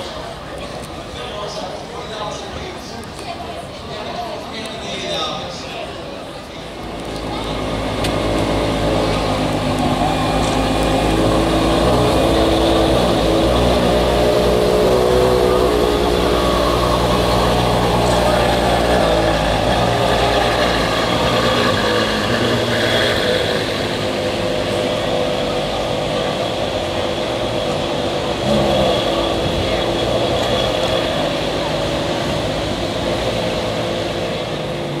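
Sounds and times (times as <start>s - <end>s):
car engine at low revs: 6.8s - 35.0s.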